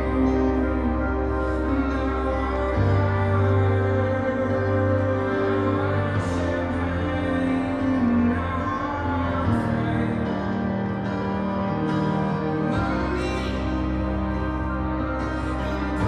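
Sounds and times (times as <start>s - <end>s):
person singing: 0.0s - 16.0s
slow music with deep bass: 0.0s - 16.0s.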